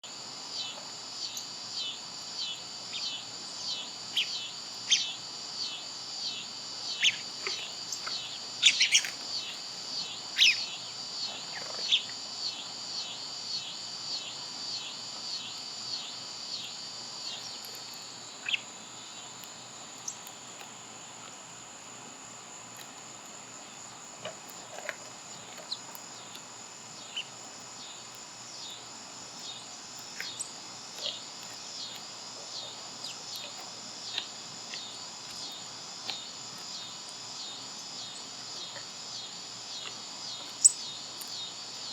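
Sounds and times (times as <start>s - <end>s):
high insect drone: 0.0s - 41.9s
small birds chirping: 0.5s - 20.8s, 23.6s - 41.9s.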